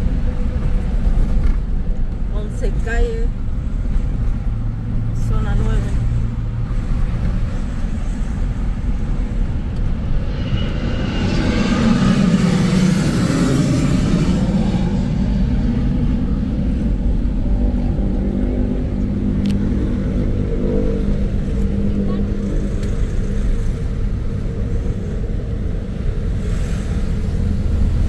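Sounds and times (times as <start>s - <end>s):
car engine and road rumble: 0.0s - 28.0s
rushing swell: 3.5s - 28.0s.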